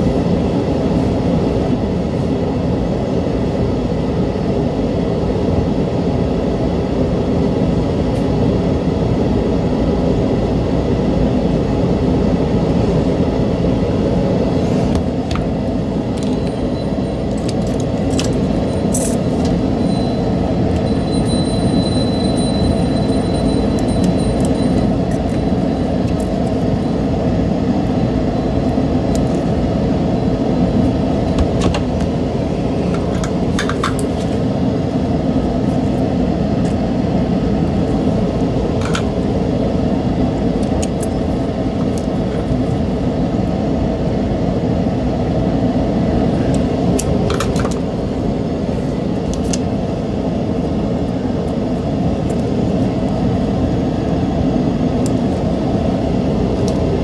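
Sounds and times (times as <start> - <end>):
low machine rumble: 0.0 - 57.0.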